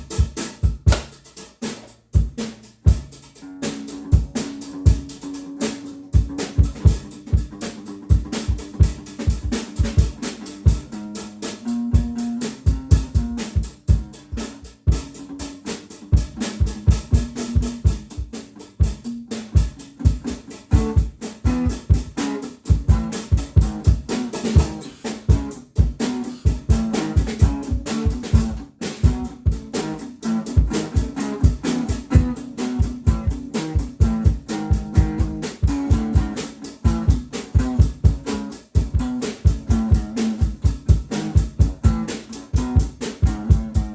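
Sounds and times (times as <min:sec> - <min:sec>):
drum kit playing: 0:00.0 - 0:43.9
guitar notes: 0:03.4 - 0:43.9.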